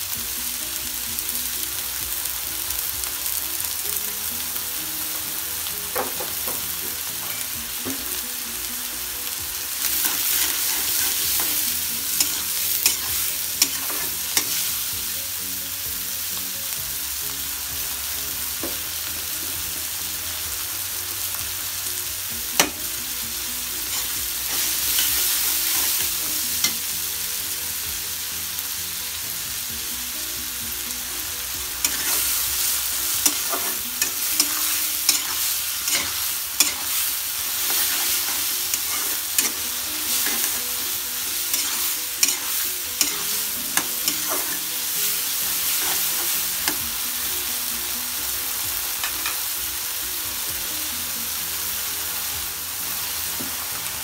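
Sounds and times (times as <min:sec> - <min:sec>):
shrimp frying in hot oil: 0:00.0 - 0:54.0.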